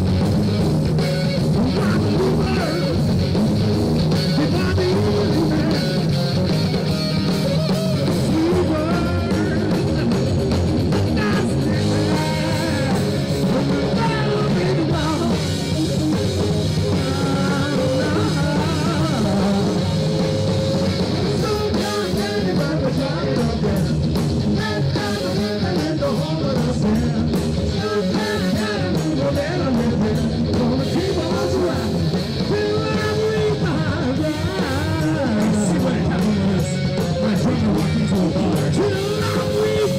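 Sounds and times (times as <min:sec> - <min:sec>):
drum kit: 0:00.0 - 0:39.9
electric guitar: 0:00.0 - 0:39.9
person singing: 0:01.5 - 0:03.0, 0:04.2 - 0:06.0, 0:07.2 - 0:10.1, 0:11.1 - 0:39.9.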